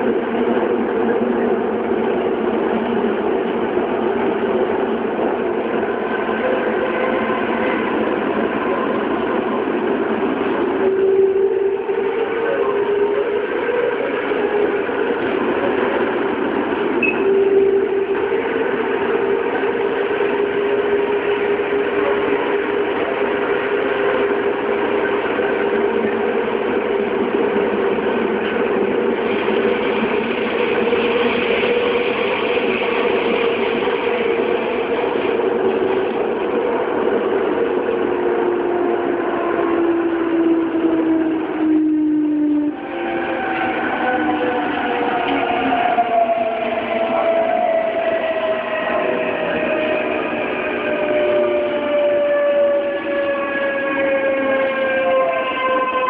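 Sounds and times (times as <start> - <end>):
wheels rumbling on rail: 0.0 - 56.0
train motor and inverter tones: 0.1 - 56.0.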